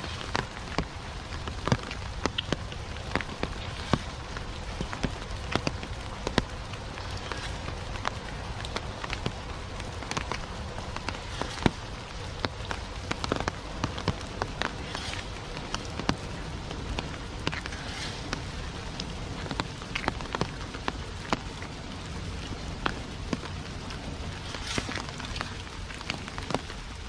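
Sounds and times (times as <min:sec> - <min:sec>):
raindrops tapping close by: 0:00.0 - 0:27.0
steady rain falling: 0:00.0 - 0:27.0.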